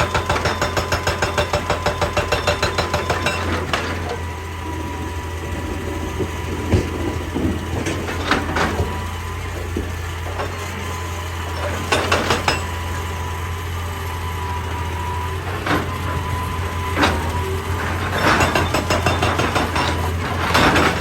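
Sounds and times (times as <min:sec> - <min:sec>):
hydraulic rock breaker hammering: 0:00.0 - 0:13.5, 0:14.8 - 0:21.0
diesel engine running: 0:00.0 - 0:21.0.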